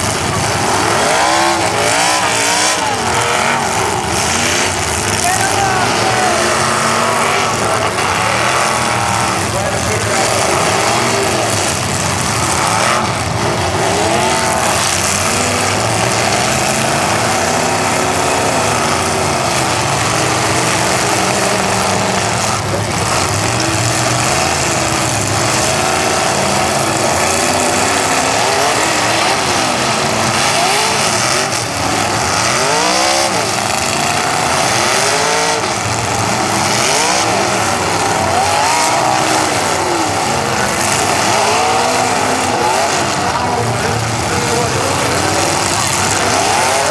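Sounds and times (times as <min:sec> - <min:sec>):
arena noise: 0:00.0 - 0:46.9
car engines revving loudly: 0:00.0 - 0:46.9.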